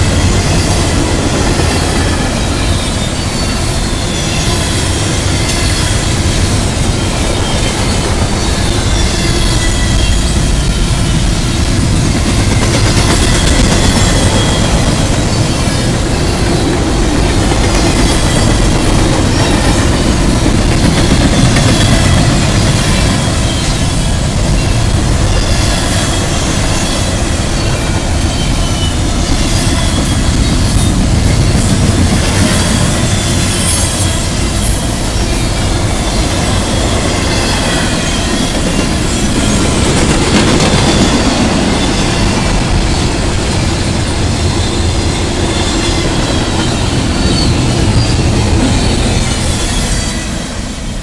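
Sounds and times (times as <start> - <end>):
train wheels rumbling and clacking: 0.0 - 51.0.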